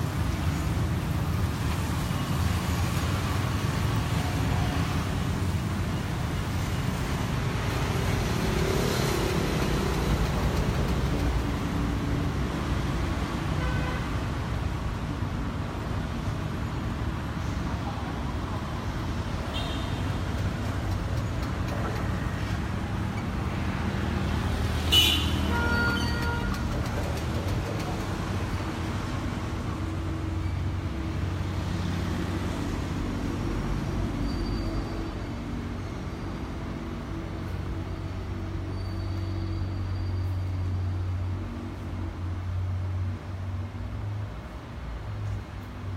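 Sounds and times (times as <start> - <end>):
cars passing: 0.0 - 45.9.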